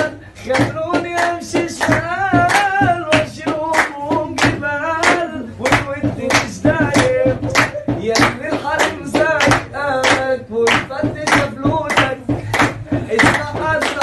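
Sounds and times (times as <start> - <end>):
hand claps at steady beat: 0.0 - 14.0.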